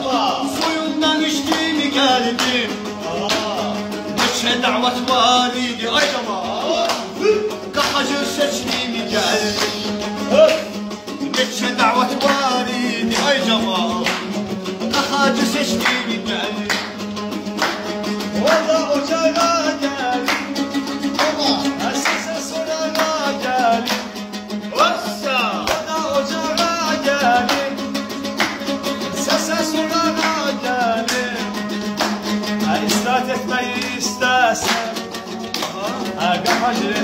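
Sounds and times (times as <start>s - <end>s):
man singing folk song: 0.0s - 37.0s
saz strummed rapidly: 0.0s - 37.0s.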